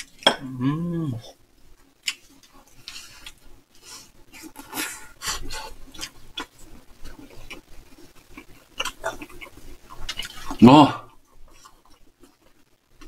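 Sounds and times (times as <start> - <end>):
soft wet chewing sounds: 1.2 - 13.0.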